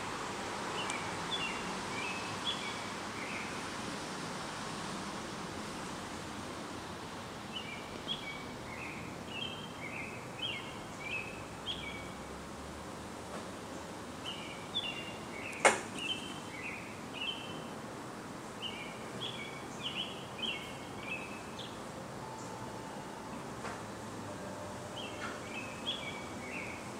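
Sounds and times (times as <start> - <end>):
outdoor background noise: 0.0 - 26.9.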